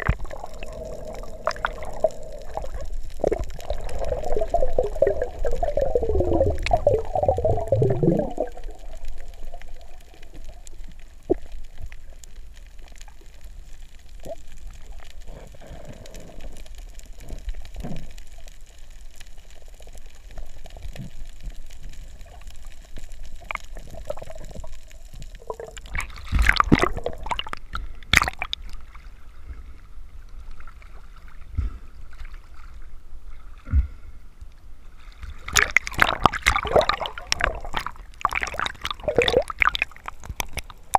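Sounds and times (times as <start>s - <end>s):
faint muffled underwater hiss: 0.0s - 40.9s
underwater bubbling gurgle: 0.0s - 40.9s.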